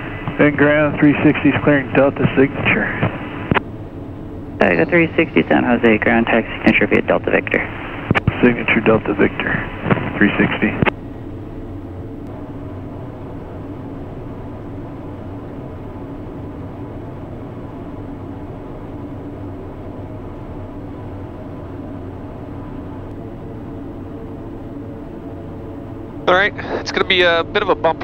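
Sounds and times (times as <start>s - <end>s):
turboprop engine drone in cockpit: 0.0s - 28.0s.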